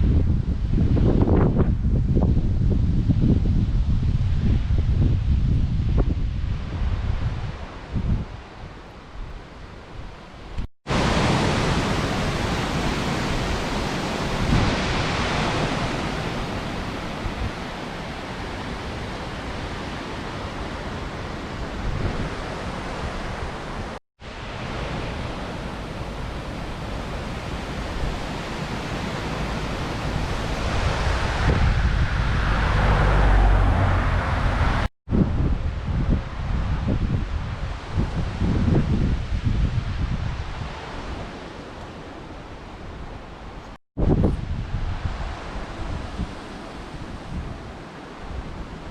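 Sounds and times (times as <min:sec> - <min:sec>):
strong wind buffeting microphone: 0:00.0 - 0:41.5, 0:42.8 - 0:48.9.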